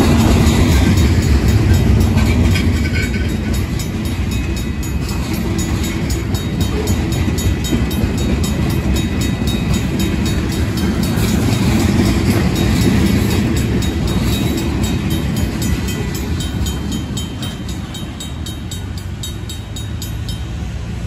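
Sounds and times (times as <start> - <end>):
crossing bell ringing: 0.0 - 21.0
freight train wheels rumbling: 0.0 - 21.0.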